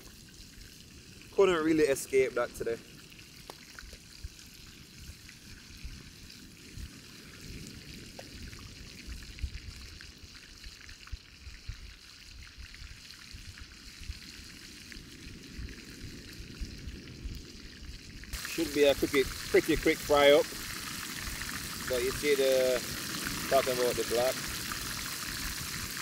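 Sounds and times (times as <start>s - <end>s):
fish deep-frying in hot oil: 0.0s - 26.0s.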